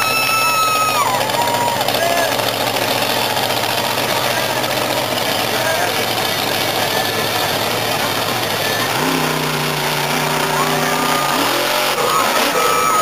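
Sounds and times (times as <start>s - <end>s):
truck engine running hard: 0.0s - 13.0s.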